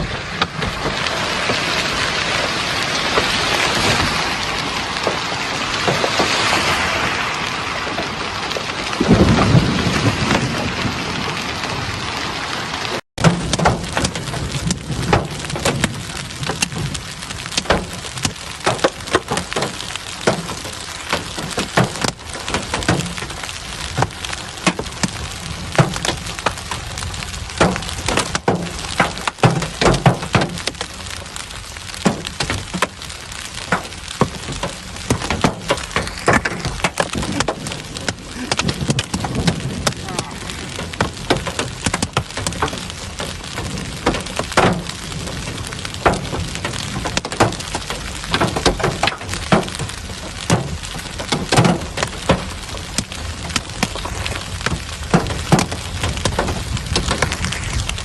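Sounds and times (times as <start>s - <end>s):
hailstones clattering: 0.0s - 58.0s
heavy rain hissing: 0.0s - 58.0s.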